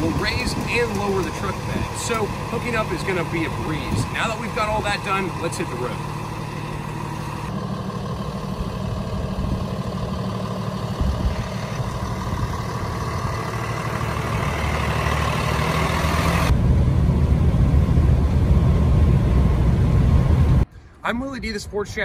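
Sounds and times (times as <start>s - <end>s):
diesel truck pulling away: 0.0s - 20.6s
truck cruising drone: 0.0s - 21.0s.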